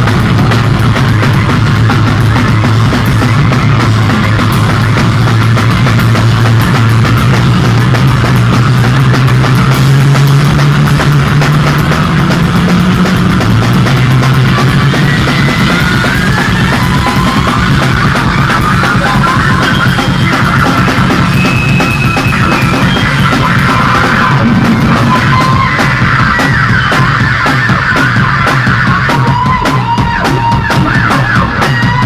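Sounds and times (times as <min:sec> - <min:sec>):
fast drumming: 0:00.0 - 0:32.0
heavy bass line: 0:00.0 - 0:32.0
high squealing tones: 0:00.0 - 0:32.0.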